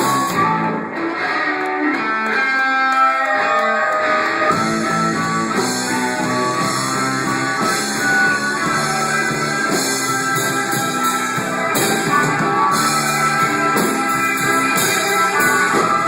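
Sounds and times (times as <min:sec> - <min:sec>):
guitar playing a melody: 0:00.0 - 0:16.0.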